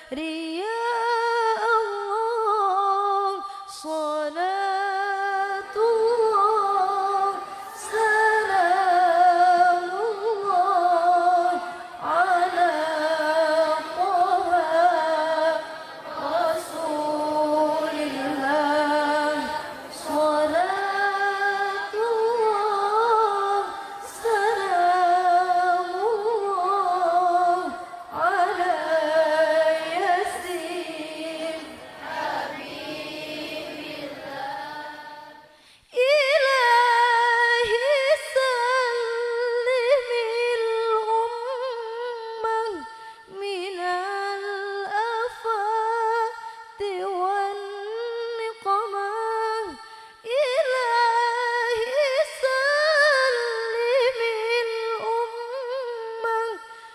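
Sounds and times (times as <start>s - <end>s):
woman singing unaccompanied: 0.0s - 33.1s, 34.0s - 56.8s.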